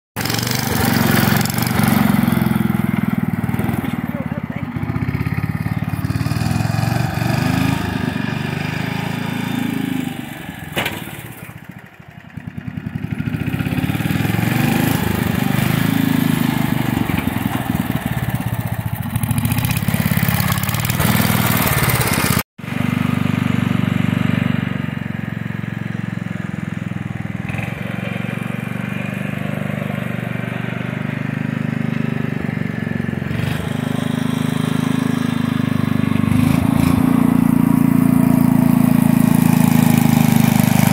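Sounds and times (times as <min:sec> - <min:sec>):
small engine running: 0:00.2 - 0:40.9.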